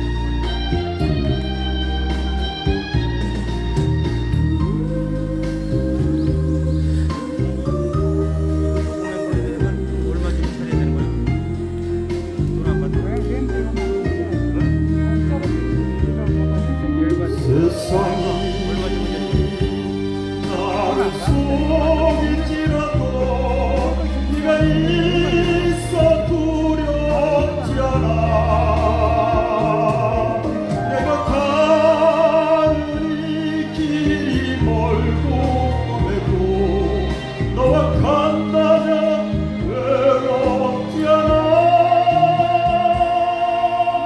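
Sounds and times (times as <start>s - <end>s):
instrumental accompaniment: 0.0s - 44.0s
man singing into a microphone: 4.6s - 15.8s, 16.8s - 44.0s.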